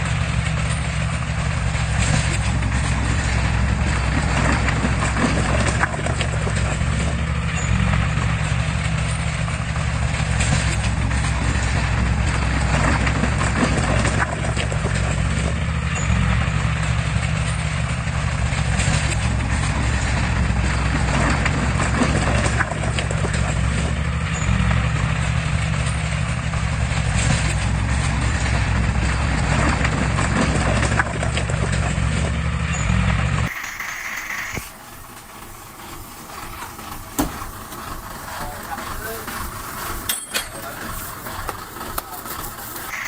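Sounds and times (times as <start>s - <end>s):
diesel engine running: 0.0s - 43.0s
engine clatter: 0.0s - 43.0s.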